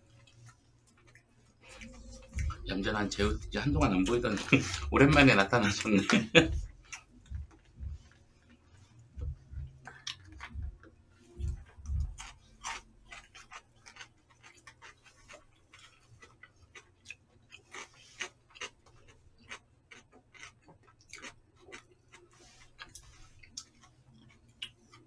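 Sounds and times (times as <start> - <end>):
mouth chewing with wet clicks: 0.1 - 25.0.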